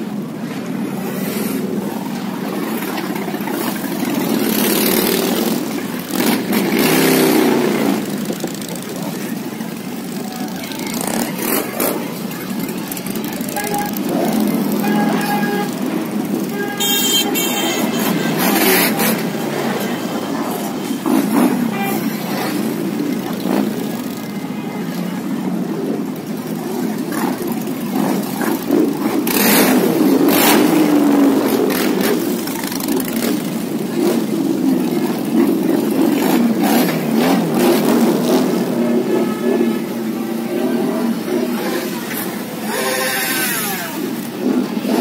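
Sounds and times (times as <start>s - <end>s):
motorcycle engines rumbling: 0.0s - 45.0s.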